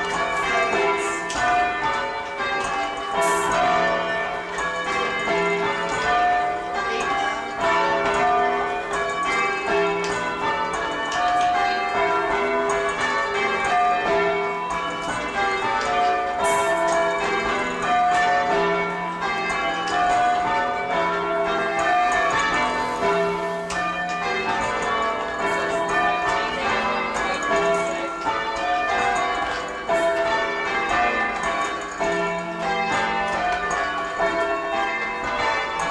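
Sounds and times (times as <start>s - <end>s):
church bells change ringing: 0.0s - 35.9s.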